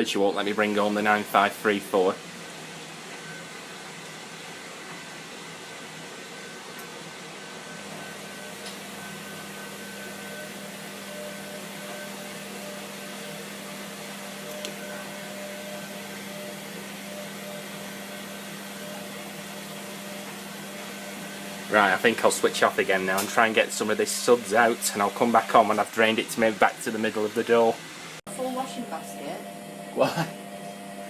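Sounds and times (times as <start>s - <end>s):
washing machine humming and hissing: 0.0s - 31.0s.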